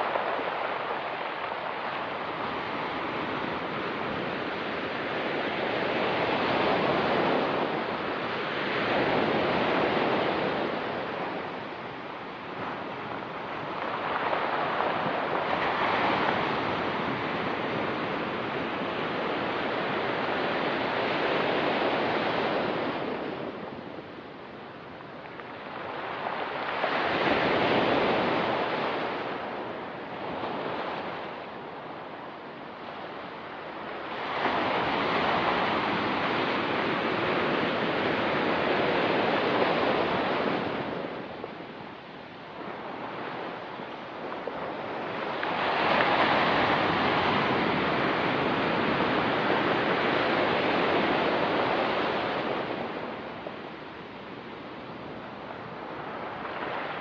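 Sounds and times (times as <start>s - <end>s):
waves on a pebbly beach: 0.0s - 57.0s.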